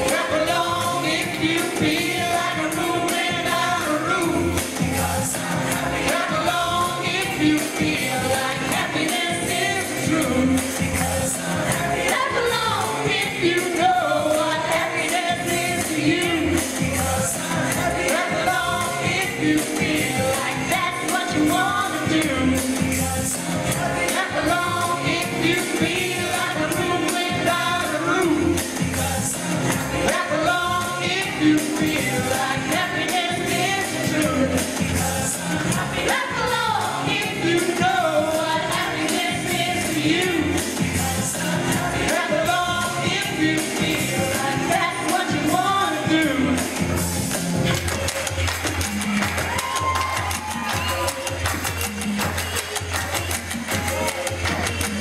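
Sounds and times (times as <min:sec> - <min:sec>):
backing music with steady beat: 0:00.0 - 0:55.0
several voices singing pop song: 0:00.0 - 0:55.0.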